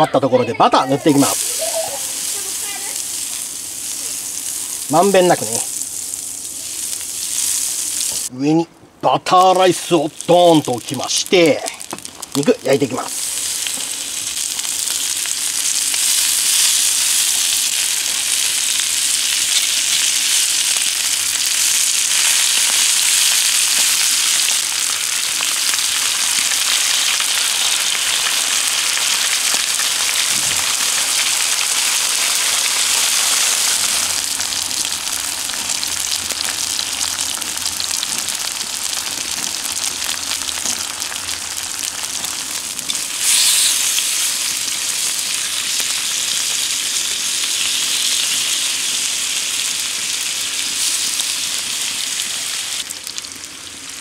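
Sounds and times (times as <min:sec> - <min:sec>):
beef sizzling on hot plate: 0:00.7 - 0:08.3, 0:09.2 - 0:54.0.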